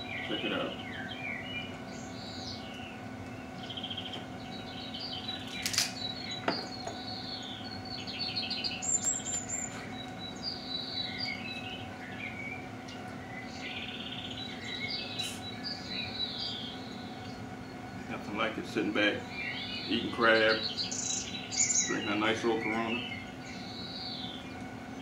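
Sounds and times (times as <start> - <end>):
songbirds chirping and trilling: 0.0 - 25.0
steady low hum: 0.0 - 25.0.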